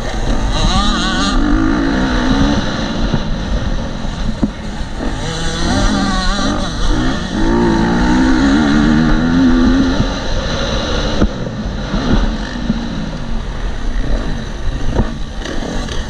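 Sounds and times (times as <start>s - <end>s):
motocross engine revving: 0.0s - 16.0s.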